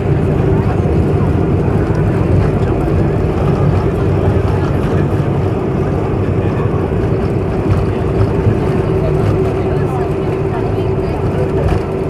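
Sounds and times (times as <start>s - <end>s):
airplane cabin rumble: 0.0s - 12.0s
constant low hum: 0.0s - 12.0s.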